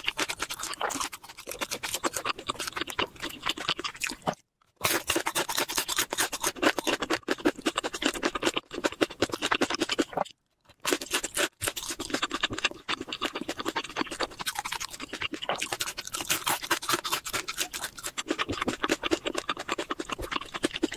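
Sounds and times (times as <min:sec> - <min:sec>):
crunchy chewing of fried chicken: 0:00.0 - 0:20.9.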